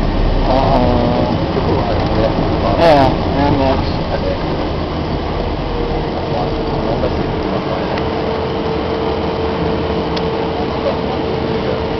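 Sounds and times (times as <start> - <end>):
steady humming tone: 0.0 - 11.9
turboprop engine and propeller noise: 0.0 - 11.9.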